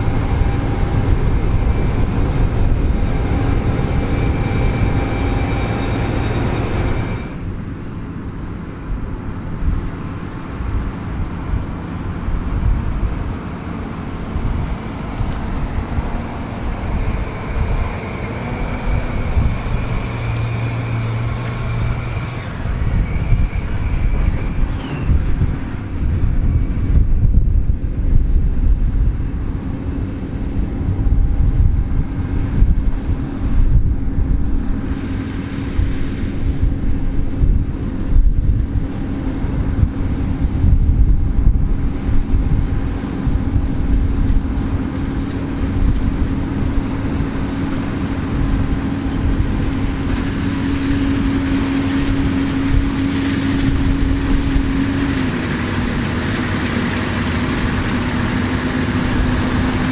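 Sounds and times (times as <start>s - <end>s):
combine harvester hum: 0.0s - 59.9s
gusty low rumble: 0.0s - 59.9s.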